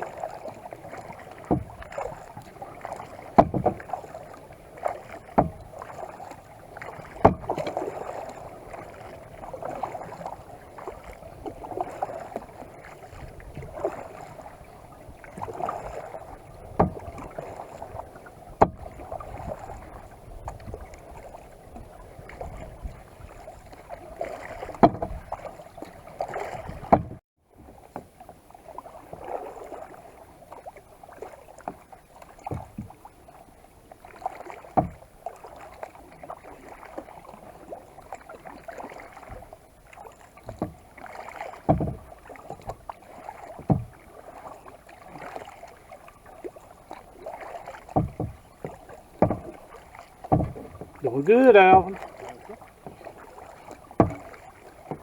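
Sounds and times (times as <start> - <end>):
paddle splashing in water: 0.0 - 55.0.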